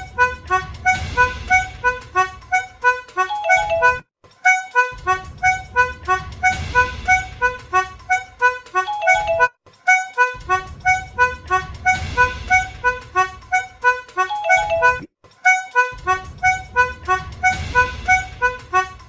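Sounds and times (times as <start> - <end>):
toy piano melody: 0.0 - 18.6.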